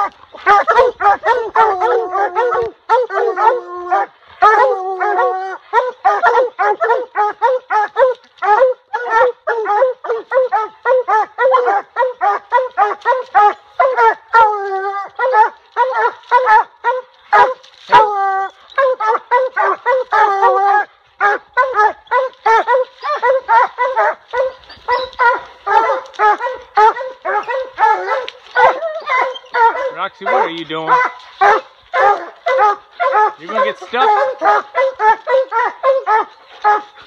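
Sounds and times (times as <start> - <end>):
dogs barking: 0.0 - 18.2, 18.8 - 37.0
dog howling: 0.0 - 37.0.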